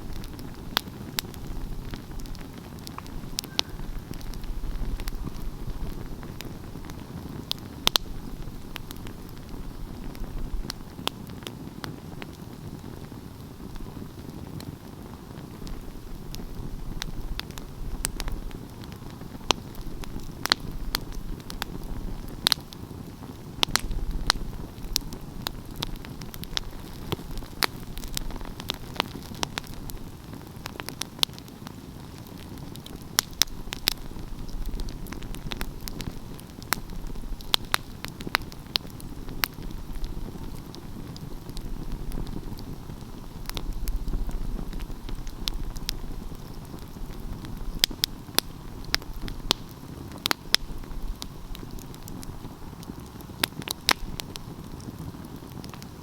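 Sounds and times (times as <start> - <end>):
rumble of fire flames: 0.0 - 56.0
wood crackling and popping: 0.0 - 56.0.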